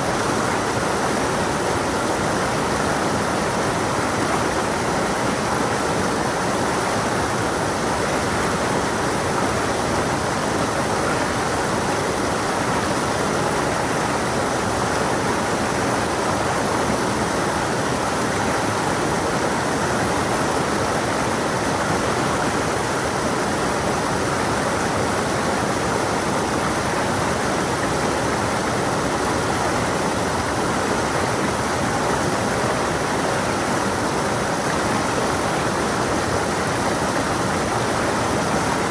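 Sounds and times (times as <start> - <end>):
water flowing over rocks: 0.0 - 38.9.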